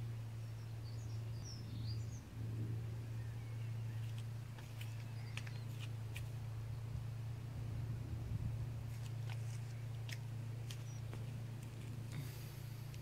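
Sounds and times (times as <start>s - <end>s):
small birds chirping: 0.0s - 7.1s, 8.8s - 13.0s
steady low hum: 0.0s - 13.0s.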